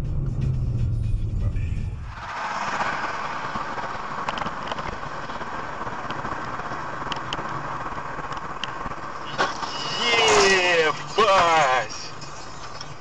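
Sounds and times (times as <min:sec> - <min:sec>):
car road and wind noise: 0:00.0 - 0:13.0.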